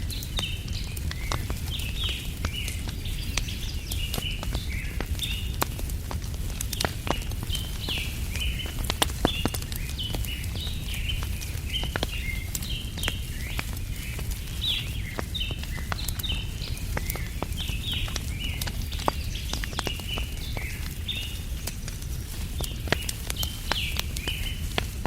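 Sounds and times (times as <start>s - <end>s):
small birds chirping: 0.0s - 25.0s
wood fire crackling: 0.0s - 25.0s.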